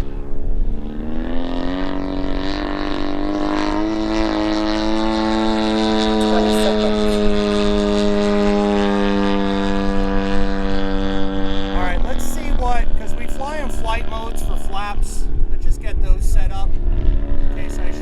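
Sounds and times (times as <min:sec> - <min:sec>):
model plane engine droning: 0:00.0 - 0:18.0.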